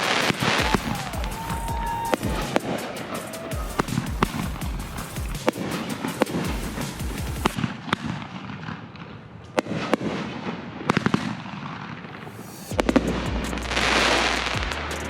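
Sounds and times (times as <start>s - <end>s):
hissing crackle of fireworks: 0.0s - 14.6s
fireworks bangs: 0.0s - 14.7s.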